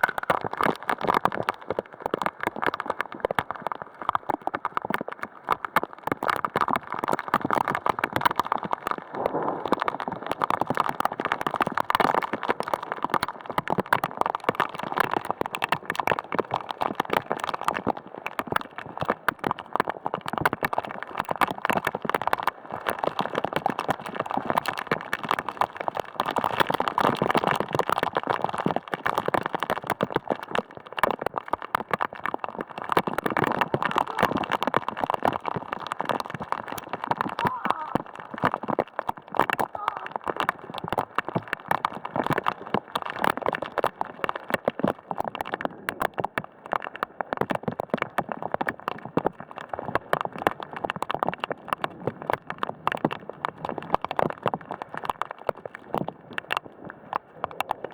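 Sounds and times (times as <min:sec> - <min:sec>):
heavy rain on hard surface: 0:00.0 - 0:56.6.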